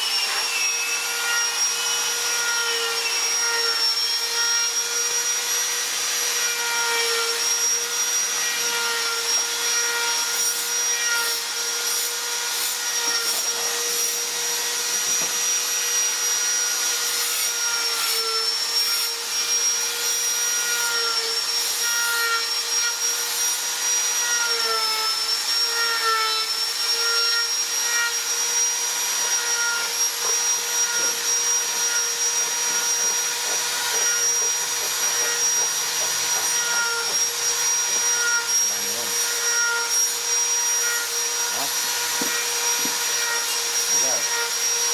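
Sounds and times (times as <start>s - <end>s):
angle grinder grinding wood: 0.0s - 44.9s.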